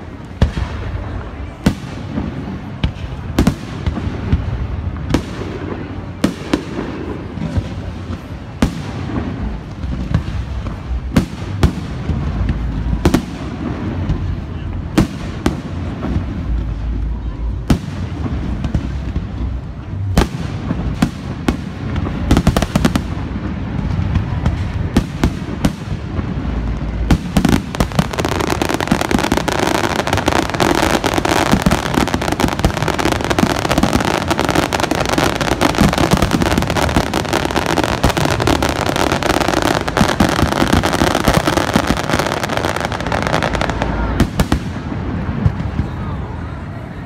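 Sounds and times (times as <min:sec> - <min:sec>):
rapid firework crackling: 0:00.0 - 0:46.5.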